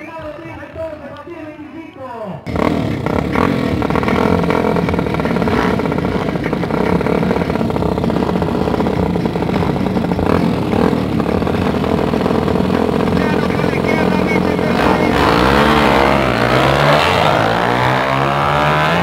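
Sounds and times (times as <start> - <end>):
moped engines running loudly: 2.4 - 19.0.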